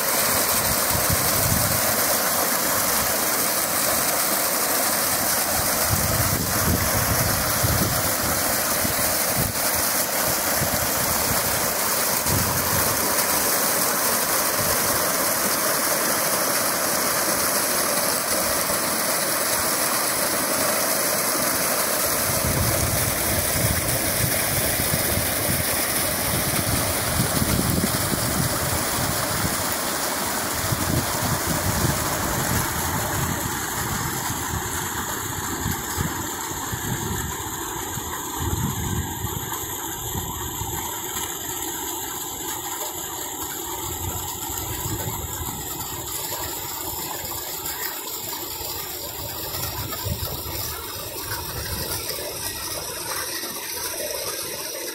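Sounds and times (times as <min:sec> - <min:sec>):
water gushing from pipe: 0:00.0 - 0:54.9.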